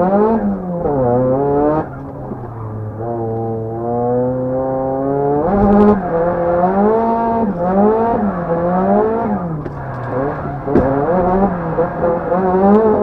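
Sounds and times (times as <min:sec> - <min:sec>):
turbo car engine revving: 0:00.0 - 0:13.0.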